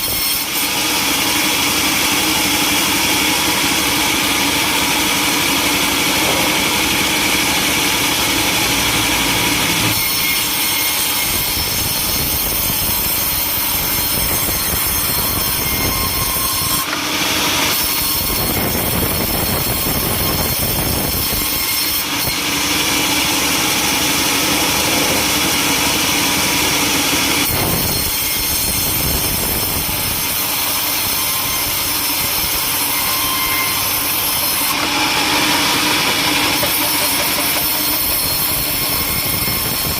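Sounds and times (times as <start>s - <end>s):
saw cutting through timber: 0.0s - 39.9s.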